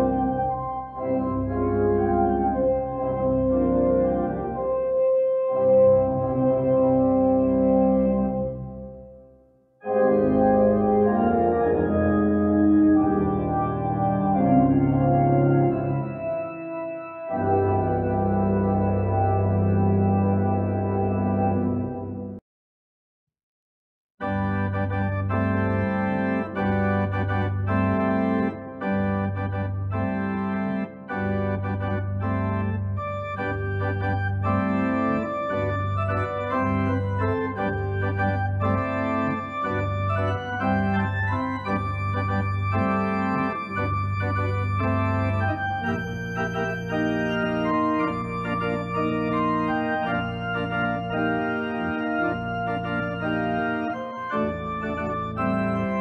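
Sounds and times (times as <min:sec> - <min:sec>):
organ music: 0:00.0 - 0:09.2, 0:09.8 - 0:22.4, 0:24.2 - 0:56.0.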